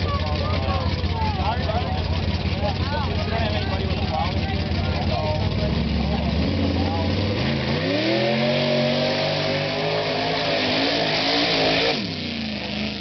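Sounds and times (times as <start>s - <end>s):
truck engine revving: 0.0s - 13.0s
tyres churning mud: 0.0s - 13.0s.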